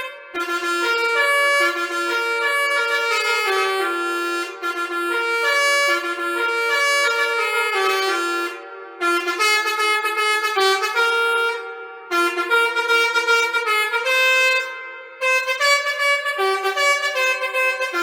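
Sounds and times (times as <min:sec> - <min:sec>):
multi-tone bus horn melody: 0:00.0 - 0:18.0.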